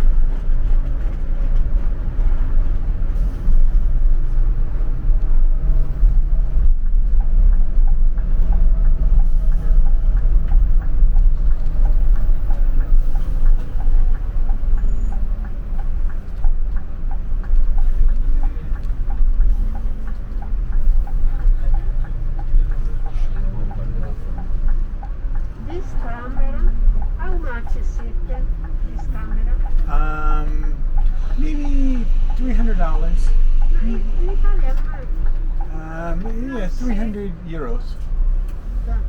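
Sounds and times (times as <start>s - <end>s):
vehicle low rumble: 0.0s - 39.0s
light even ticking: 4.2s - 38.7s.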